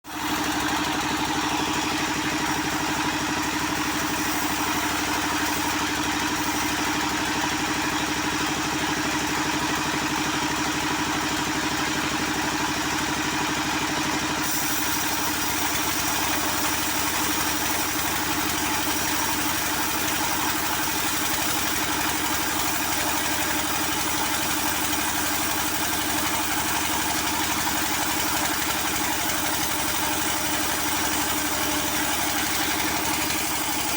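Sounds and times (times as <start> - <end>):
engine-driven saw cutting wood: 0.0 - 33.9.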